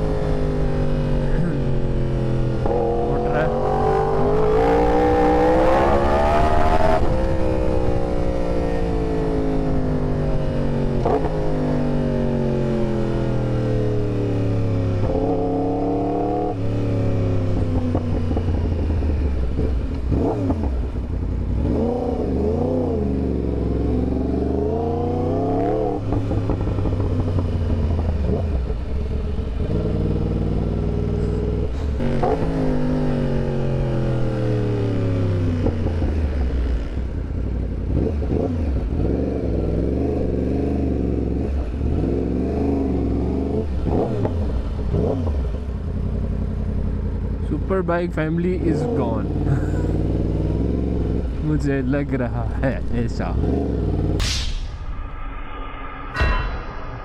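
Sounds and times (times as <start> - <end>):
motorcycle engine revving: 0.0 - 54.3.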